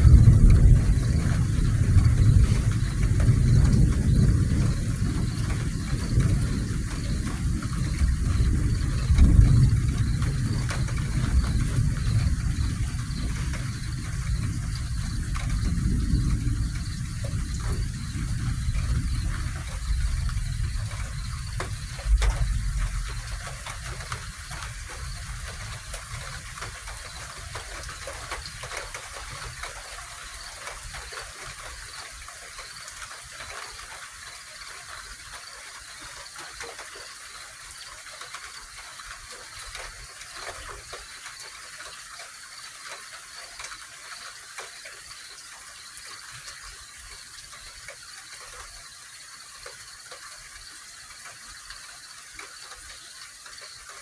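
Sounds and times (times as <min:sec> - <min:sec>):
continuous high hiss: 0:00.0 - 0:54.0
faint insect trill: 0:00.0 - 0:54.0.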